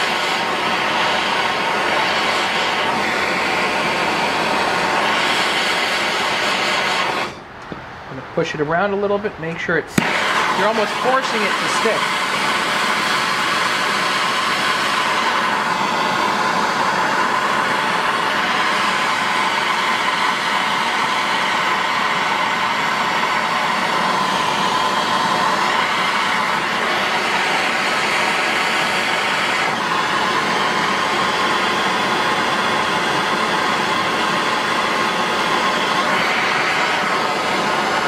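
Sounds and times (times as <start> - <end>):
gas torch flame hissing: 0.0 - 7.8, 9.9 - 38.0.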